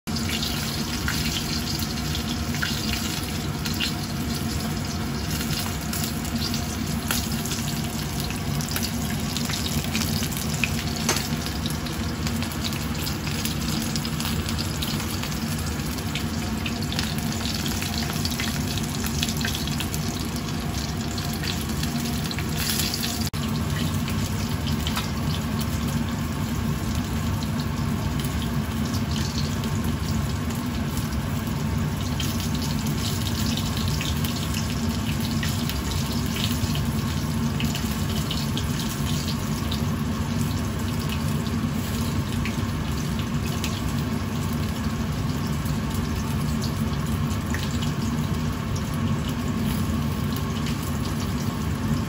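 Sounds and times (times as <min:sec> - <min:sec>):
chicken sizzling in hot oil: 0:00.1 - 0:52.0.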